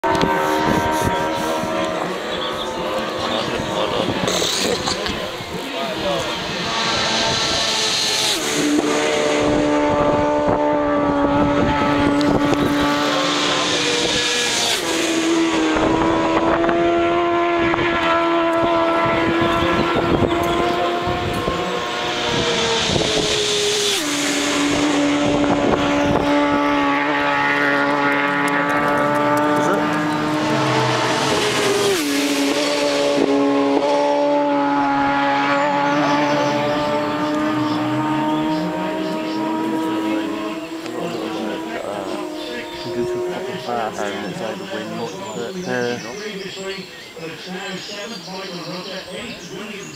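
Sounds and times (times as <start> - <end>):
racing motorcycles passing at speed: 0.0 - 49.9.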